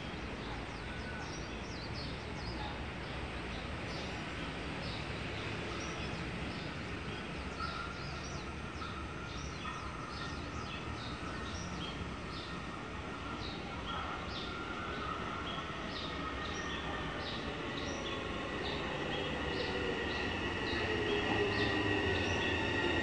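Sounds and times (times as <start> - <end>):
metro platform background noise: 0.0 - 23.0.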